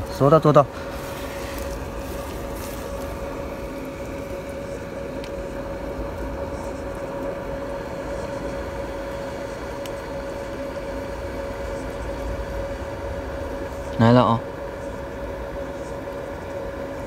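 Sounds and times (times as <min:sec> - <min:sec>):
steady droning tone: 0:00.0 - 0:17.0.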